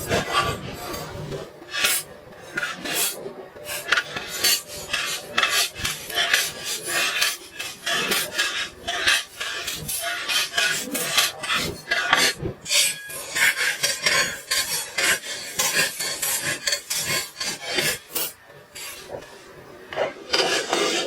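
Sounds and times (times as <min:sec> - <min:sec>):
hand tool rasping and scraping: 0:01.7 - 0:19.3, 0:19.9 - 0:21.0.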